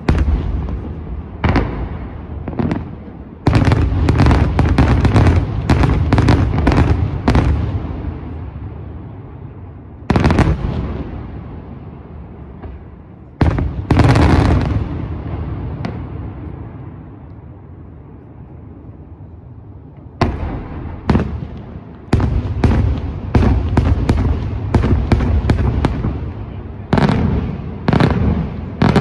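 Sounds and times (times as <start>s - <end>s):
fireworks bangs: 0.0s - 17.2s, 20.0s - 29.0s.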